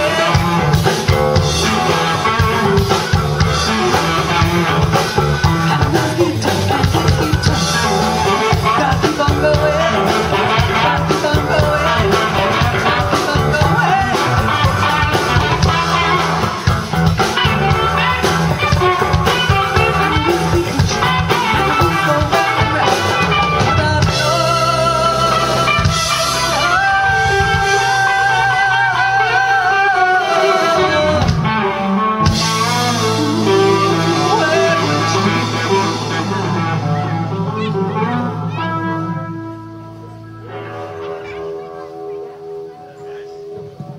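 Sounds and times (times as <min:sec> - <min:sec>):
lead guitar wavering notes: 0:00.0 - 0:43.9
live rock band playing: 0:00.0 - 0:43.9.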